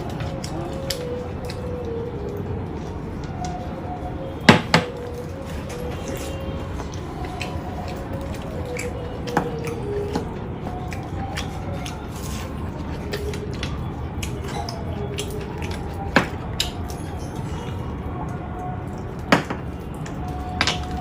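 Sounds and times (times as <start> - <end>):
wet chewing and squishing: 0.0 - 21.0.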